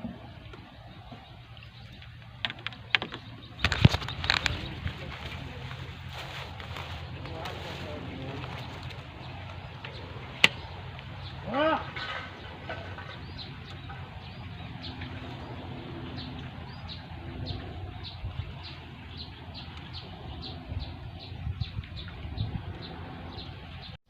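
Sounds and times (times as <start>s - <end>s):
steady low rumble: 0.0s - 24.0s
small bird chirping: 0.8s - 24.0s.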